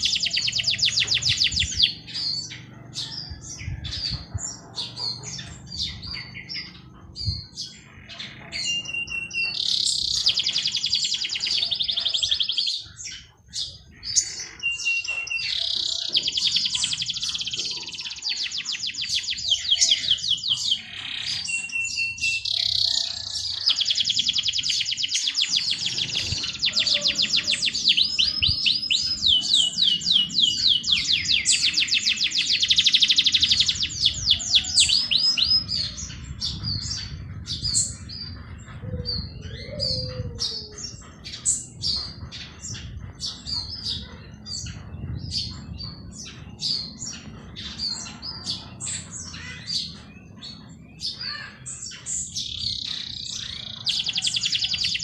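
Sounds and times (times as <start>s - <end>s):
songbird trilling: 0.0s - 55.0s.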